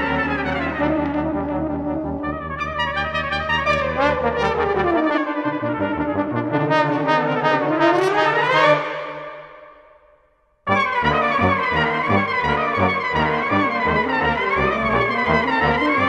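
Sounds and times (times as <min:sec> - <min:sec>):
brass background music: 0:00.0 - 0:09.8, 0:10.7 - 0:16.0.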